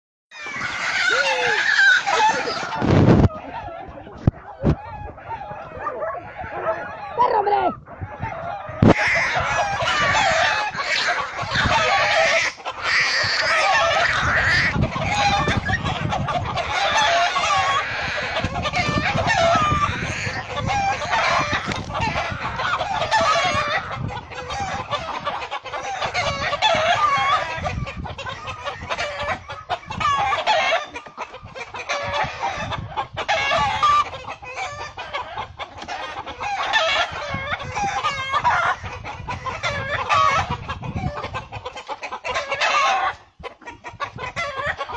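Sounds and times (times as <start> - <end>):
hen squawking and clucking: 0.3 - 44.9.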